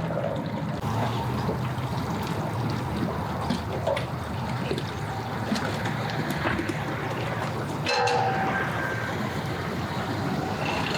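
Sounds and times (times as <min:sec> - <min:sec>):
low engine hum: 0:00.0 - 0:10.9
water trickling and splashing: 0:00.0 - 0:10.9.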